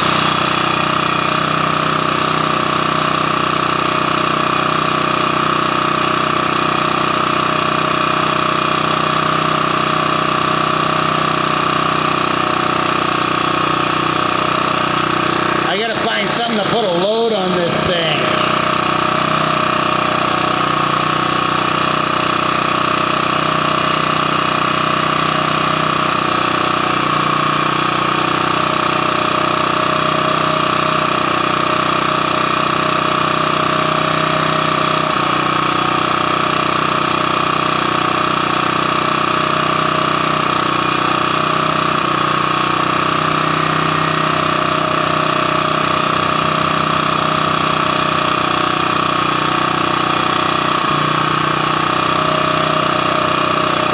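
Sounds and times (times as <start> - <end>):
generator engine running steadily: 0.0 - 53.9.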